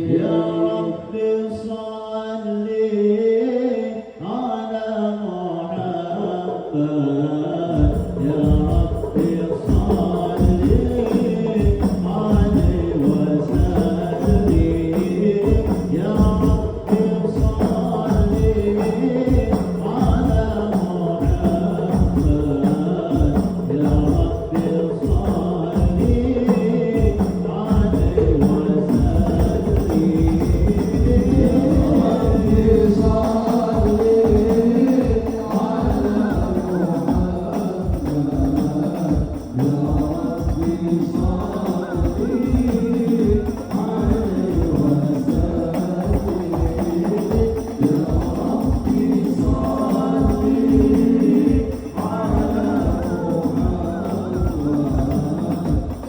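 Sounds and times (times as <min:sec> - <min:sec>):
voices singing: 0:00.0 - 0:56.0
frame drums with jingles: 0:07.8 - 0:56.0
hand percussion beat: 0:07.8 - 0:56.0.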